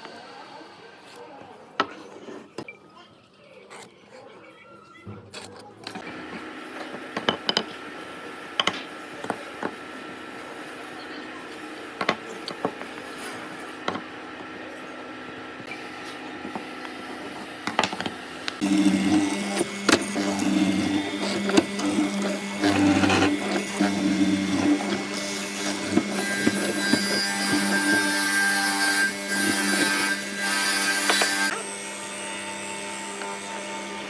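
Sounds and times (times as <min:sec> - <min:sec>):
power tool motor on wood: 0:05.4 - 0:34.0.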